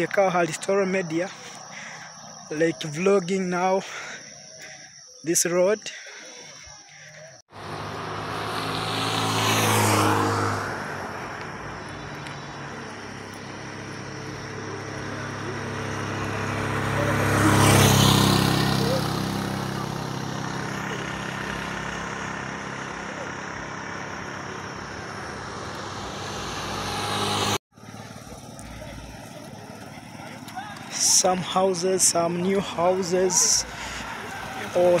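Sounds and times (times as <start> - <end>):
vehicles passing on road: 0.0 - 35.0.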